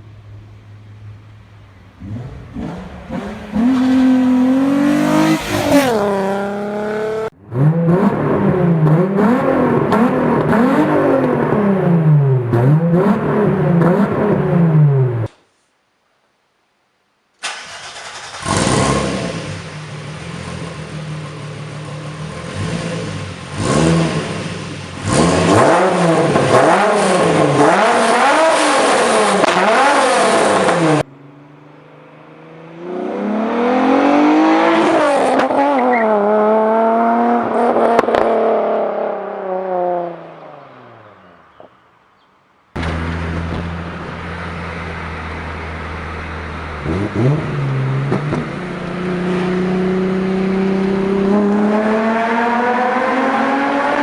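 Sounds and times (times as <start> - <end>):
car engine idling and revving: 0.0 - 15.3, 17.5 - 54.0.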